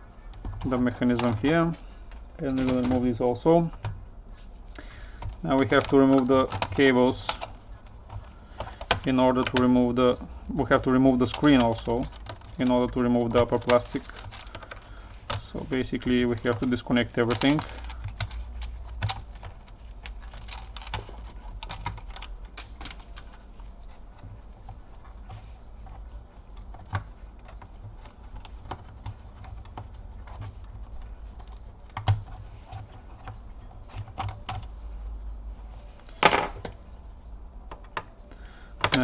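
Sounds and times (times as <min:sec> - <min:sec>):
steady low hum: 0:00.0 - 0:39.0
plastic parts clattering: 0:00.3 - 0:04.0, 0:04.8 - 0:34.7, 0:35.8 - 0:36.9, 0:38.7 - 0:39.0.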